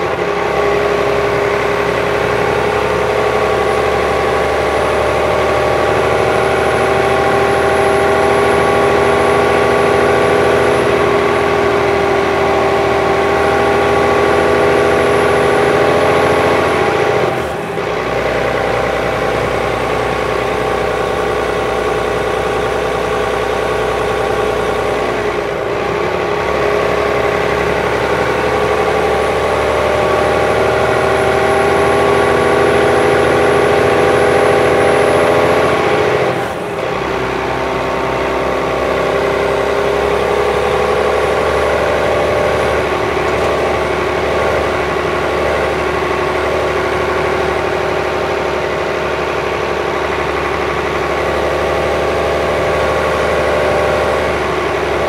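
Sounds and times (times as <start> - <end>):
diesel bus engine idling: 0.0 - 55.0.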